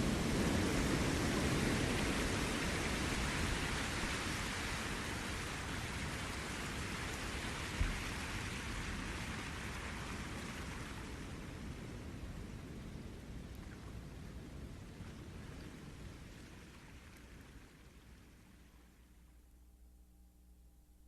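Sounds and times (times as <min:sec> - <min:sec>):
wave washing on shore: 0:00.0 - 0:17.6.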